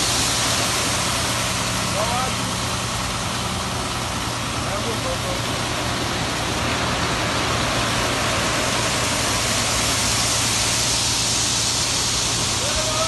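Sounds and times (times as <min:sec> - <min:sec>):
constant hiss: 0:00.0 - 0:13.0
diesel engine running: 0:00.0 - 0:13.0.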